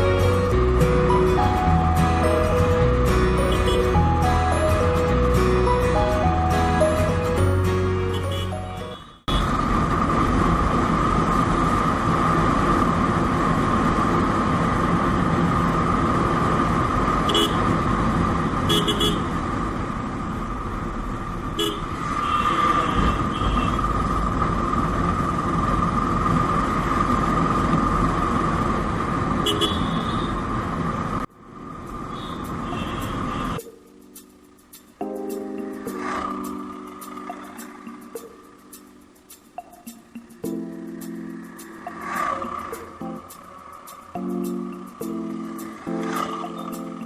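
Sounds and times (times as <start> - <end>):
road noise in traffic: 0.0 - 47.0.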